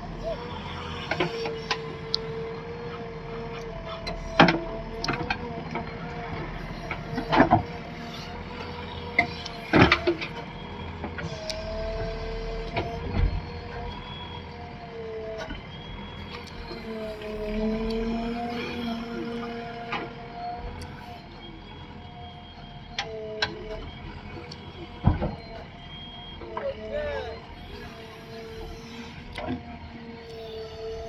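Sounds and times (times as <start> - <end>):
diesel engine running: 0.0 - 31.0
hydraulic whine: 0.0 - 31.0.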